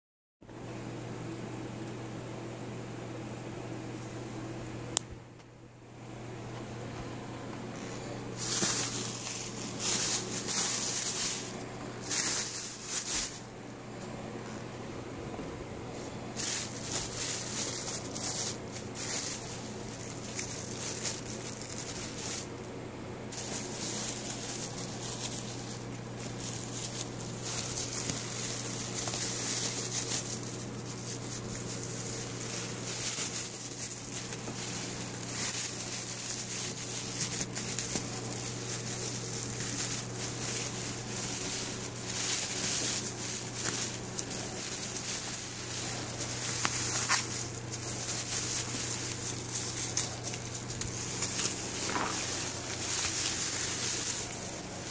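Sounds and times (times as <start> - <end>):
steady low hum: 0.4 - 54.9
plastic bags rustling and crinkling: 7.8 - 14.8, 15.9 - 54.9.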